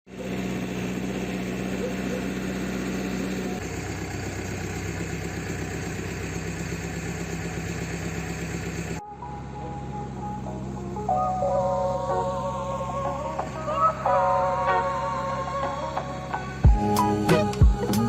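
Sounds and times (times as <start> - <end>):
diesel engine idling: 0.1 - 18.0.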